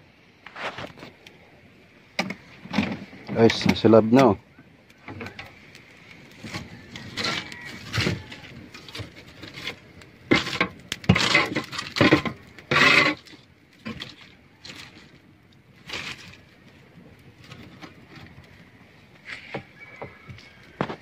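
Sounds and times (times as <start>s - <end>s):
burning sticks crackling and scraping: 0.0s - 21.0s.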